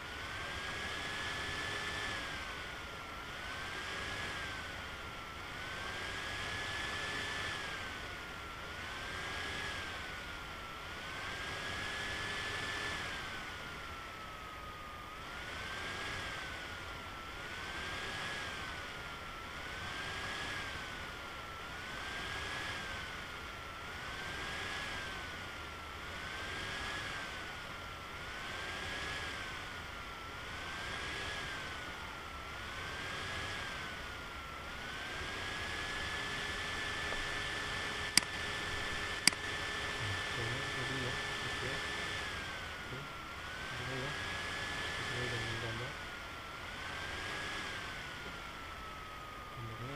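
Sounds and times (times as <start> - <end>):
machining whine: 0.0 - 49.9.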